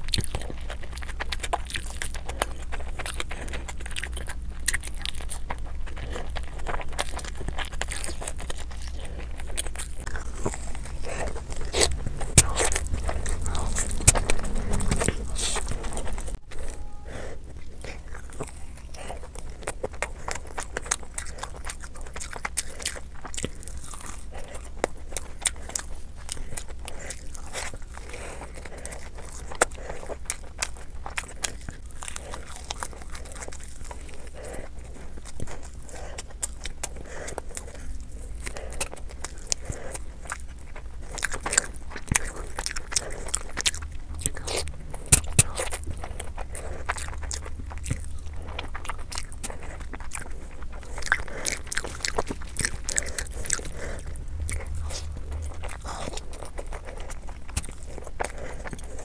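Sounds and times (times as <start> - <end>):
person chewing close-miked: 0.0 - 59.0.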